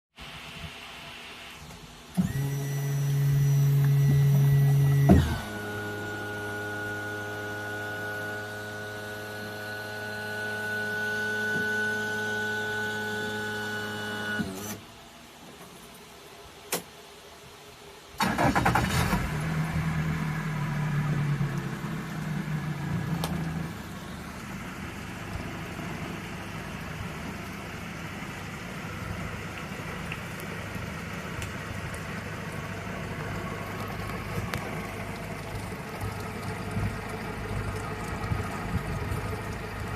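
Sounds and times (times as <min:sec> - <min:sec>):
electric tilt motor humming: 0:01.5 - 0:14.8, 0:19.2 - 0:39.9
outboard engine cranking and idling: 0:01.8 - 0:14.7, 0:18.2 - 0:39.9.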